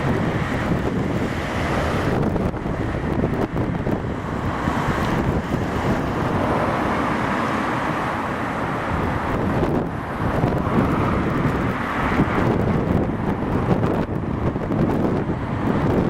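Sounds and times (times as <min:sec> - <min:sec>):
road traffic passing: 0:00.0 - 0:16.0
wind buffeting microphone: 0:00.0 - 0:16.0.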